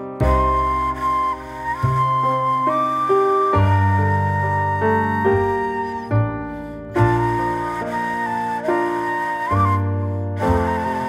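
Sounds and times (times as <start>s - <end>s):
soft flute melody: 0.0s - 11.0s.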